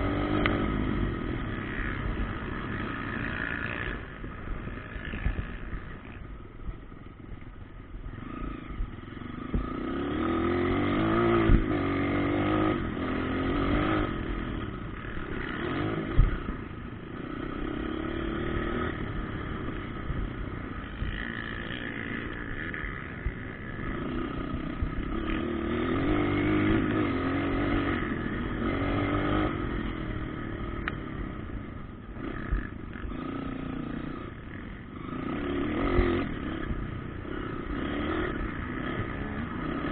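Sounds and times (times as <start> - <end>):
motocross engines revving: 0.0 - 6.3, 8.1 - 39.9.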